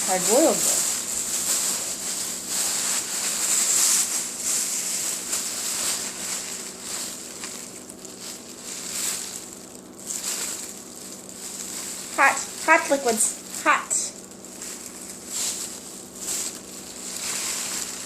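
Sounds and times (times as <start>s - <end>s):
faint steady hum: 0.0s - 18.0s
plastic bag rustling: 0.0s - 18.0s.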